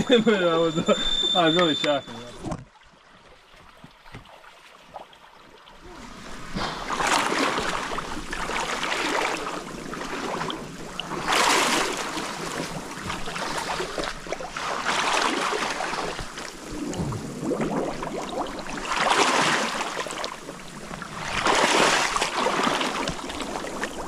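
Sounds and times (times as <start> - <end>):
water splashing as person wades: 2.7 - 24.0.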